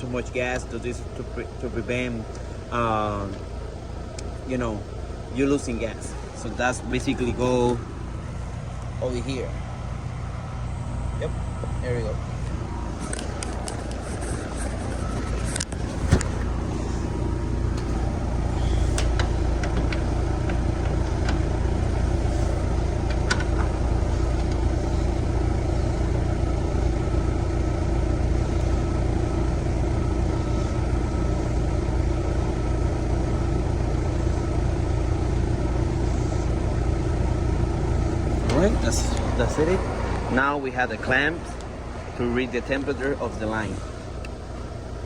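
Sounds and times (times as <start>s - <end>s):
condensing unit humming: 0.0s - 45.0s.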